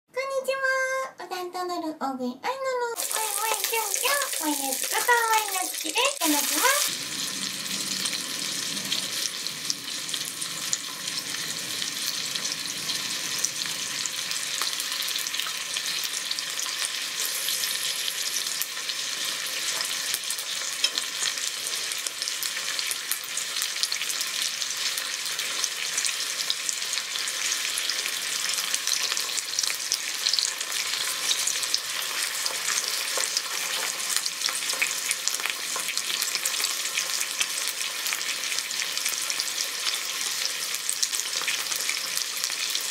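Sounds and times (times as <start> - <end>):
steak sizzling in grill pan: 3.0 - 42.9.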